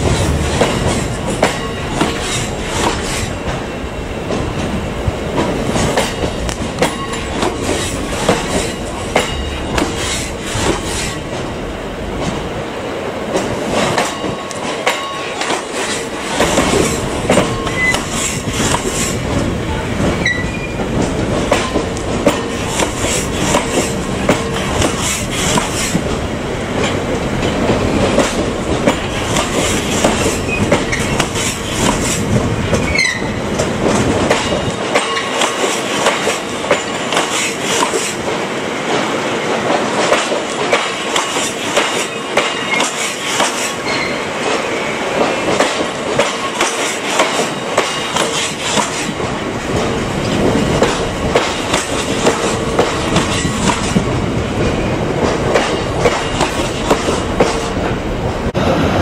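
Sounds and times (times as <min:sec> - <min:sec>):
train wheels clattering over rail joints: 0:00.0 - 0:12.5, 0:13.2 - 0:58.4
deep rumble of freight train: 0:00.0 - 0:59.0.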